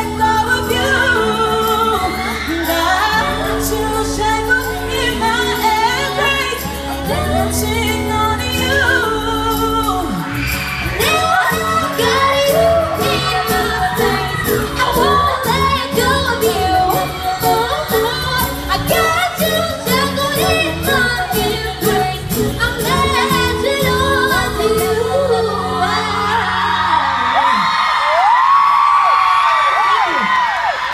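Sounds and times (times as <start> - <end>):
female vocal group singing in harmony: 0.0 - 27.4.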